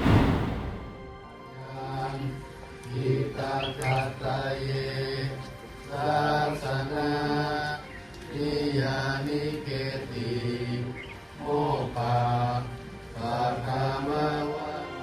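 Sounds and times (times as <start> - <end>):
low group chanting: 0.1 - 15.0.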